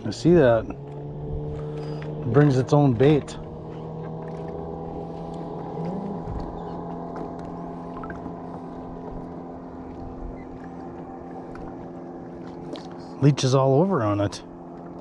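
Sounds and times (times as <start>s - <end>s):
electric motor humming: 0.2s - 13.1s.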